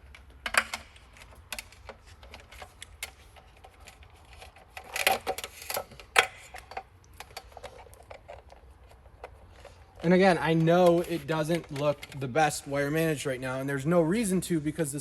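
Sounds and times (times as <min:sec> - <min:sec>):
cable and connector rattling: 0:00.0 - 0:12.6.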